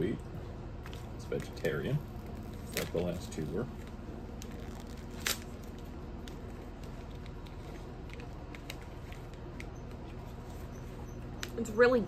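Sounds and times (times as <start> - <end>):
plastic wrapper crinkling: 0.9 - 10.6.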